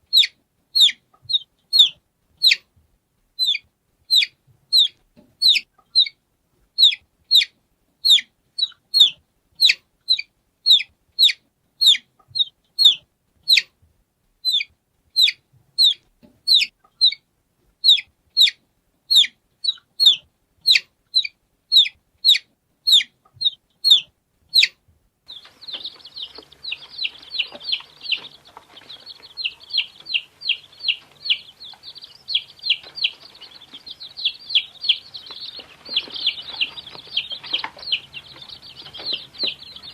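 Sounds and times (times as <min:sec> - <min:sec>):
chick peeping: 0:00.0 - 0:02.7, 0:03.4 - 0:13.8, 0:14.4 - 0:17.2, 0:17.8 - 0:39.9
background hiss: 0:00.0 - 0:39.9
several chicks peeping rapidly: 0:00.1 - 0:02.6, 0:03.4 - 0:06.2, 0:06.8 - 0:13.7, 0:14.4 - 0:17.2, 0:17.8 - 0:39.9.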